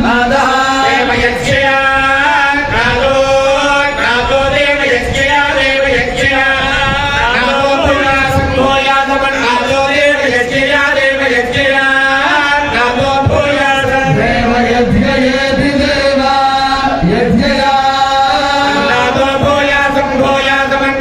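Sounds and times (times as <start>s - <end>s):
group of voices chanting: 0.0s - 21.0s.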